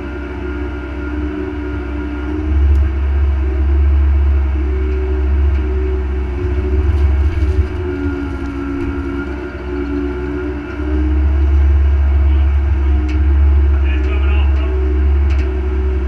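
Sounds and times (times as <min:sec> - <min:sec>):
excavator diesel engine running: 0:00.0 - 0:16.0
hydraulic whining: 0:00.0 - 0:16.0.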